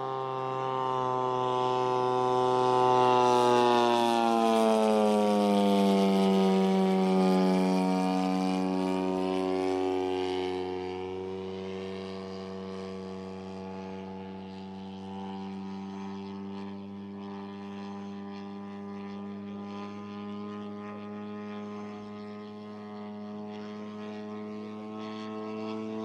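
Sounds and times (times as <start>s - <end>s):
model plane engine flying overhead: 0.0s - 26.0s.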